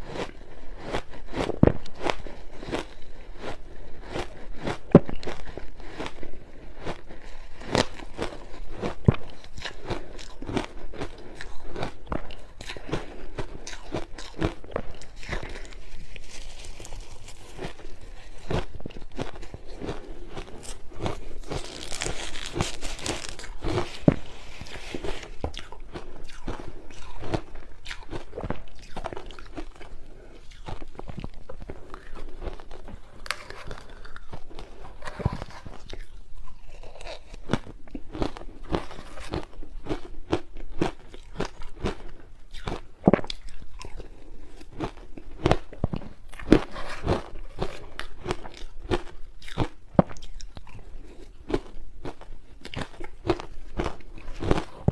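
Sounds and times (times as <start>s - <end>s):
ice being chewed and crunched: 0.0s - 54.9s.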